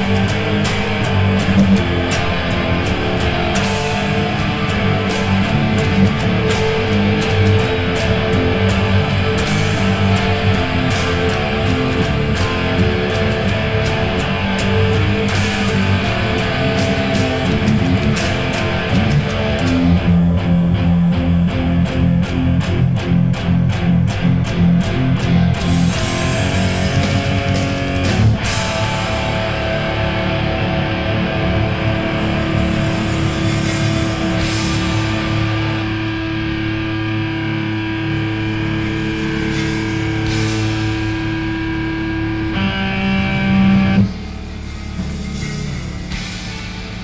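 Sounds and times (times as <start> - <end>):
cymbal crashes: 0.0 - 20.2, 25.3 - 47.0
heavy rock guitar music: 0.0 - 47.0.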